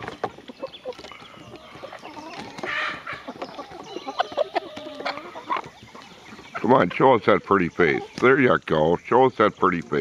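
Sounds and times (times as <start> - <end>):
chickens clucking and calling: 0.0 - 10.0.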